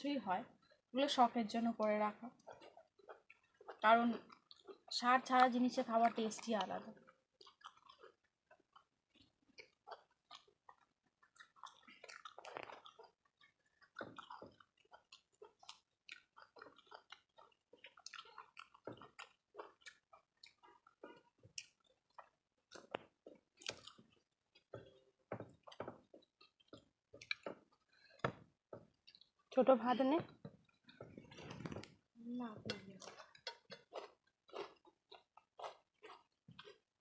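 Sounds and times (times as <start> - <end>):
chewing and wet mouth smacks: 2.4 - 28.3, 28.9 - 29.6, 32.9 - 37.0.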